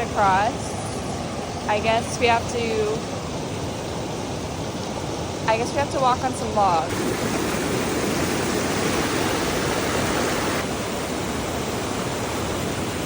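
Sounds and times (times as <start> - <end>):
fast-flowing stream water: 0.0 - 13.0.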